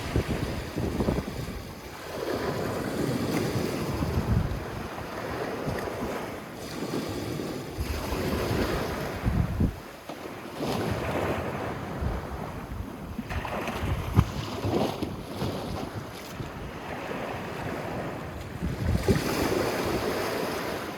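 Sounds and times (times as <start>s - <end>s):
wind buffeting microphone: 0.0s - 9.9s, 10.6s - 20.9s
sea waves on sandy beach: 0.0s - 20.9s.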